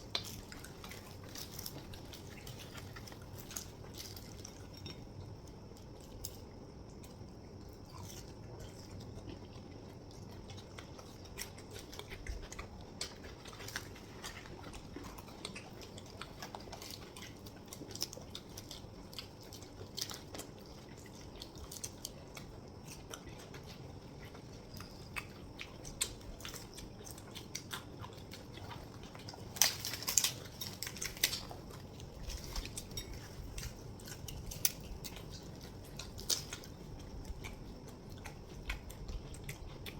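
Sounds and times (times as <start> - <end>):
chewing mouth clicks and smacks: 0.0 - 39.9.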